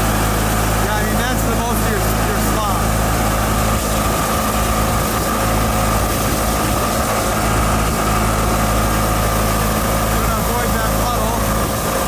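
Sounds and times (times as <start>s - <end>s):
lawn tractor engine running: 0.0s - 12.0s
steady whine: 0.0s - 12.0s.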